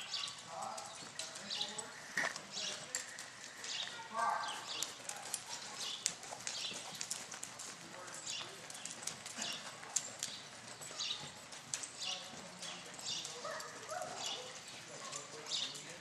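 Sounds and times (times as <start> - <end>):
horse hooves on soft dirt: 0.0 - 16.0.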